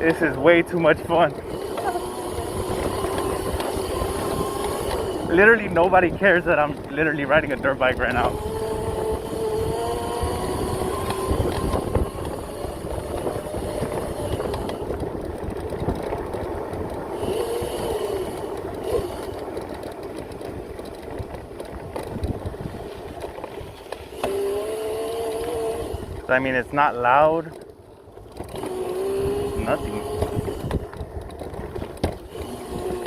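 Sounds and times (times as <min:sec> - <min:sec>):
electric motor whine: 0:00.0 - 0:33.0
knocks and rattles over bumps: 0:00.0 - 0:33.0
wind rush and trail noise: 0:00.0 - 0:33.0.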